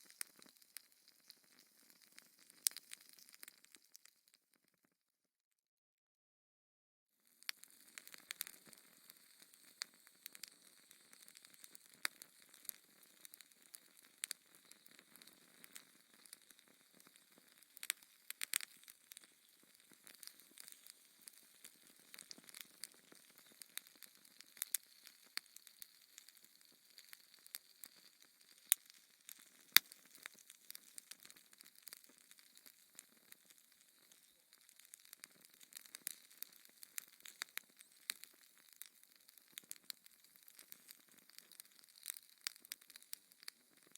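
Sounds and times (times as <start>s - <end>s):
wood fire crackling: 0.0s - 4.1s, 7.4s - 43.9s.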